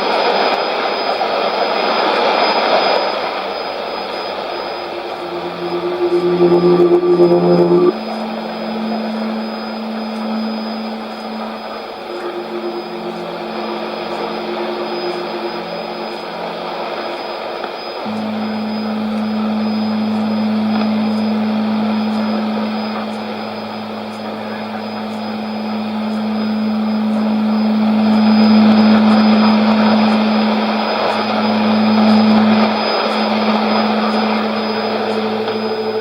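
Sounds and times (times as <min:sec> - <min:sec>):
low humming tone: 0:03.2 - 0:36.0
radio static hiss: 0:03.9 - 0:36.0.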